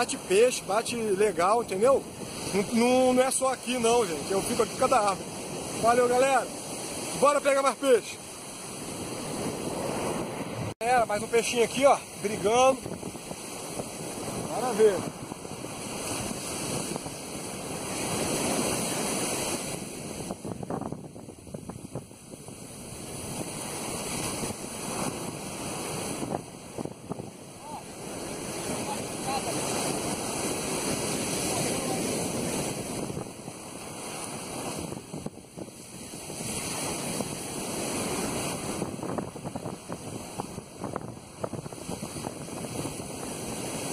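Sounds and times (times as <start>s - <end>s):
ocean surf breaking on beach: 0.0s - 43.9s
wind on microphone: 0.0s - 43.9s.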